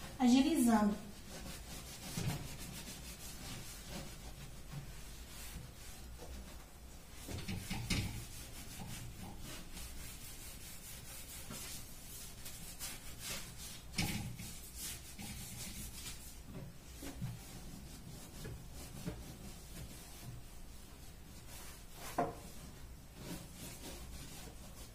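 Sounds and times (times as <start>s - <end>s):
hand scrubbing cabinet surface: 0.0s - 24.9s.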